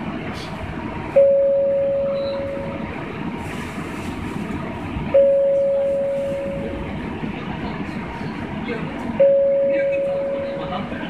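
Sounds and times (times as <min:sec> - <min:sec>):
subway car hum: 0:00.0 - 0:11.0.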